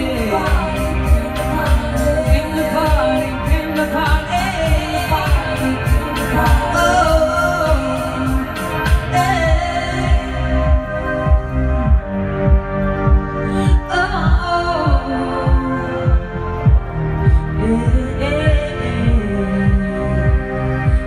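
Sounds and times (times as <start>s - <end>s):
electronic backing track with beat: 0.0s - 21.0s
woman singing into a microphone: 0.0s - 21.0s.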